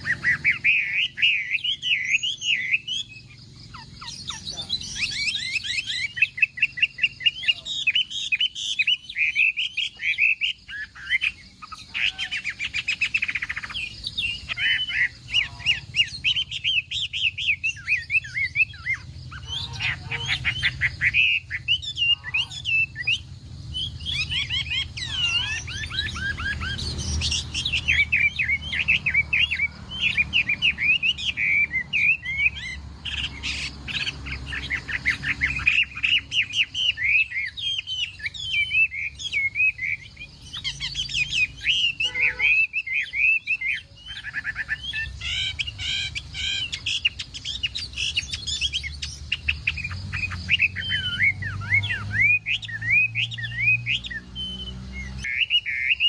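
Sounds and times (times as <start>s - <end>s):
bird singing whistled trills: 0.0s - 56.0s.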